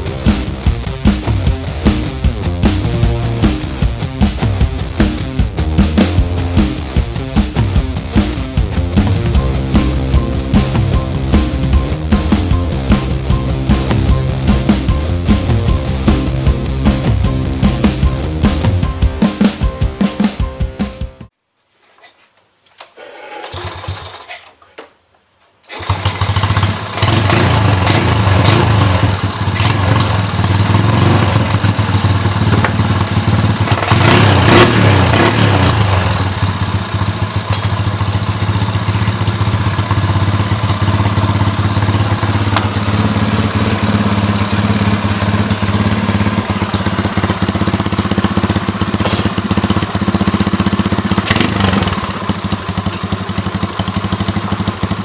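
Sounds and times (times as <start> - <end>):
motorcycle engine starting and idling: 0.0 - 19.6, 23.0 - 24.6, 25.6 - 55.0.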